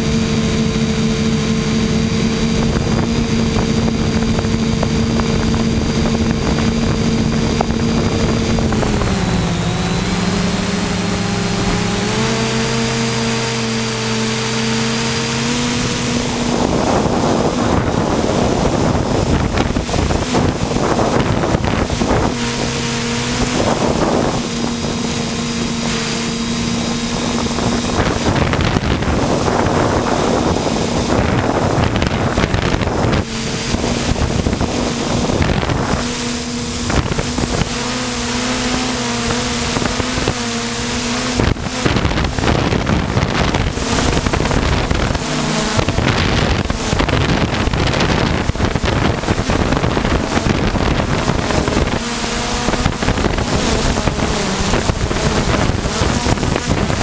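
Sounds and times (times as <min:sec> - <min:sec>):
drone motors humming: 0:00.0 - 0:57.0
wind buffeting microphone: 0:00.0 - 0:57.0.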